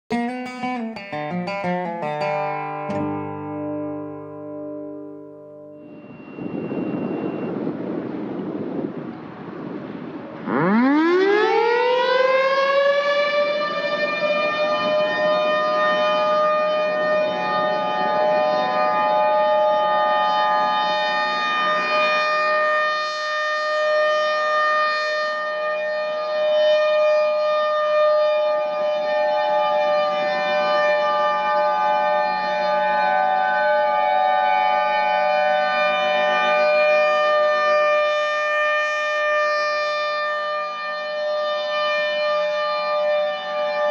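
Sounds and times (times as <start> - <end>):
higher siren tone: 0.1 - 43.9
warning siren wailing: 0.2 - 43.9.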